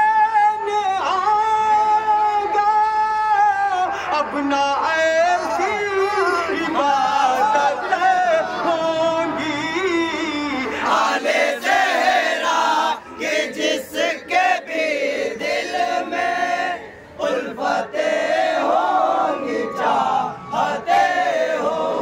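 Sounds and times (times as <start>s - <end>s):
voices chanting devotional poem: 0.0s - 22.0s.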